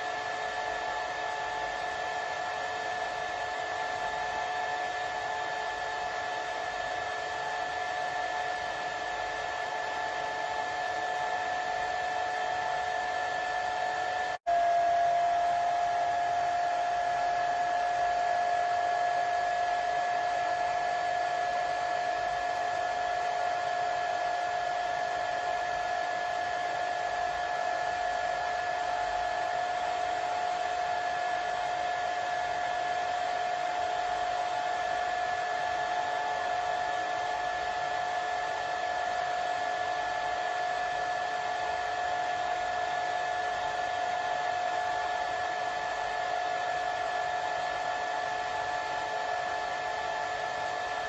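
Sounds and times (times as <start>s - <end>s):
hair dryer running: 0.0s - 51.0s.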